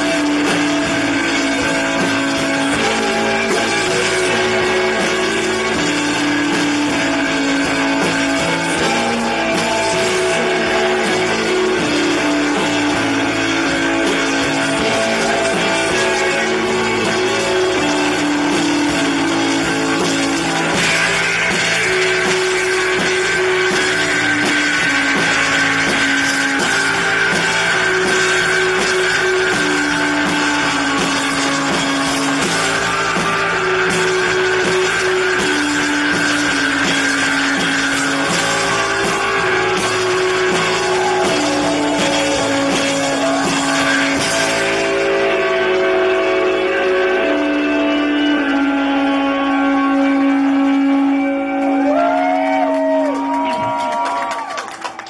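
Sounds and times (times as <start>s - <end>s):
sustained electric guitar notes: 0.0s - 54.4s
live rock band playing: 0.0s - 55.0s.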